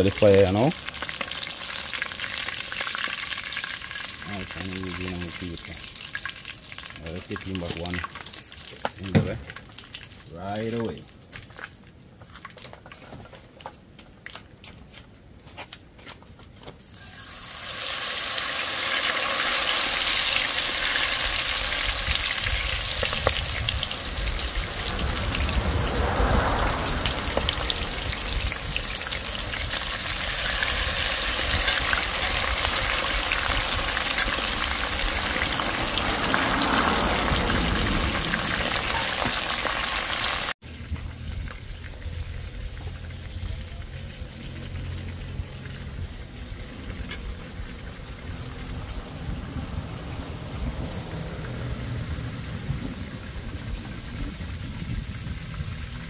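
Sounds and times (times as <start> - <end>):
oil sizzling and bubbling: 0.0 - 13.0, 16.8 - 56.0.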